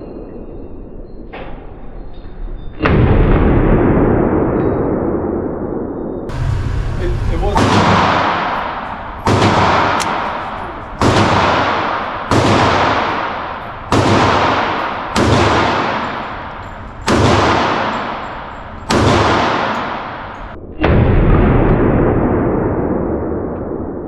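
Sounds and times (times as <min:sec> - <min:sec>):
pistol shots echoing indoors: 0:02.8 - 0:24.0.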